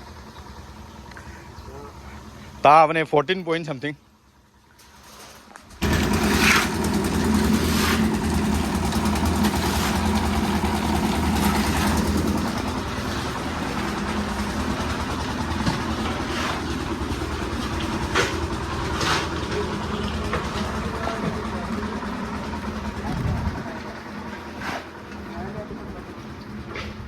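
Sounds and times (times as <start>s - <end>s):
engine idling: 0.0s - 2.7s, 5.6s - 27.0s.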